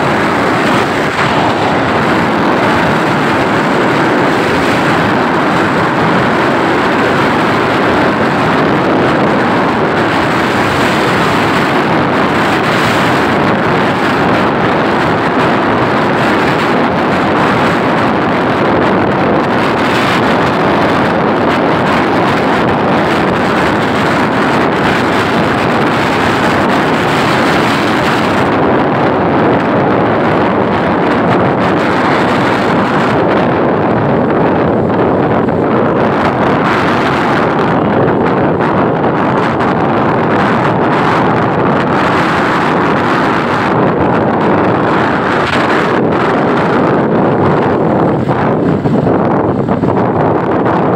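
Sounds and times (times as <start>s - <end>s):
vehicle road noise: 0.0s - 50.9s
wind noise on microphone: 0.0s - 50.9s.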